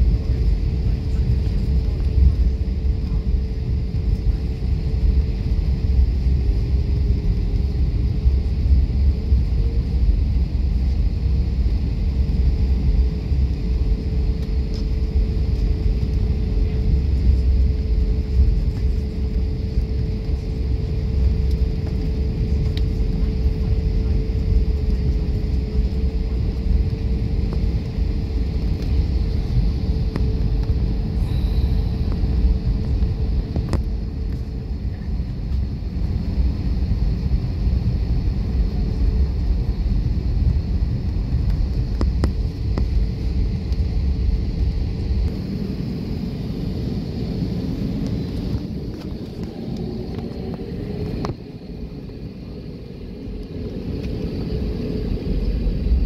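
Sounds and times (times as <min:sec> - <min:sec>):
airplane cabin rumble: 0:00.0 - 0:56.0
droning hum: 0:00.0 - 0:56.0.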